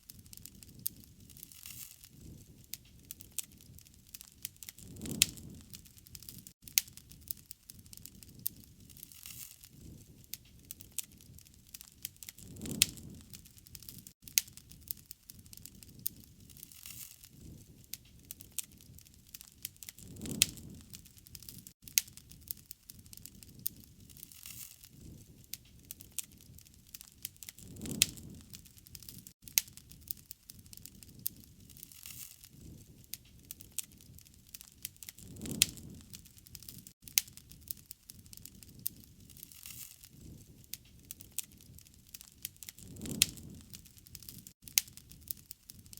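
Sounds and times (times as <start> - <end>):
wood fire crackling and popping: 0.0 - 45.9
low rumble of flame: 0.1 - 45.9.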